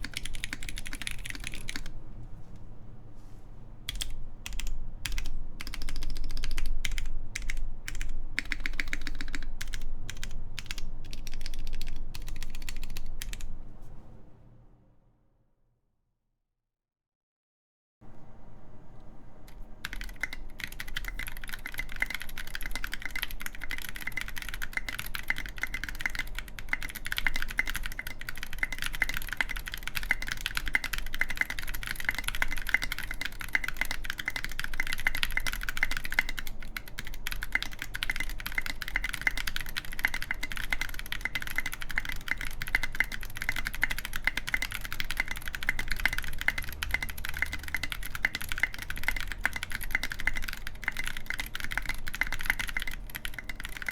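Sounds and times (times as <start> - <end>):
mechanical keyboard typing: 0.0 - 2.0, 3.9 - 13.5, 19.5 - 53.9.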